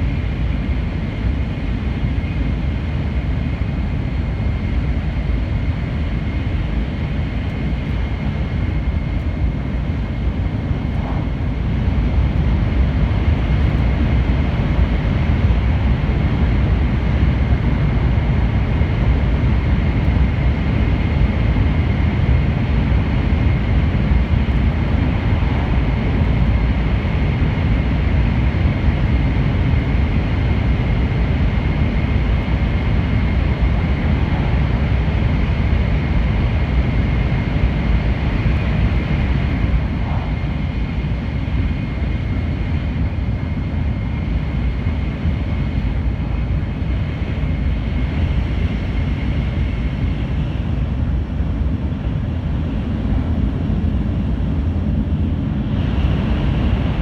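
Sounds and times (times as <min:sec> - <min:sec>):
train rumble inside passenger car: 0:00.0 - 0:57.0.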